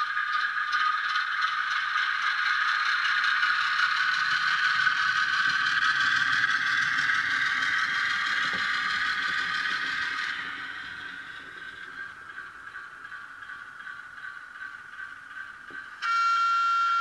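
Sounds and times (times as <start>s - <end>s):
fine mechanical clatter: 0.0s - 16.0s
thin diesel engine sound: 0.8s - 17.0s.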